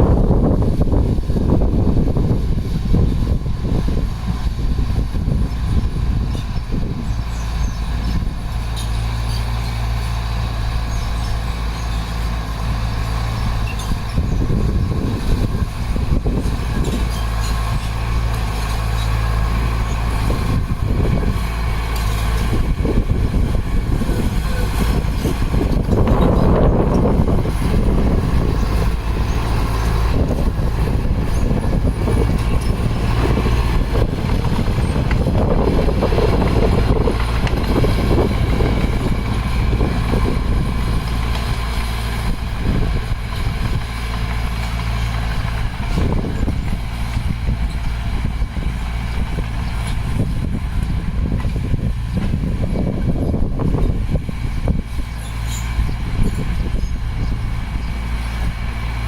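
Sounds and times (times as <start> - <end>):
heavy diesel engine running: 0.0 - 59.0
machine clatter and rumble: 0.0 - 59.0.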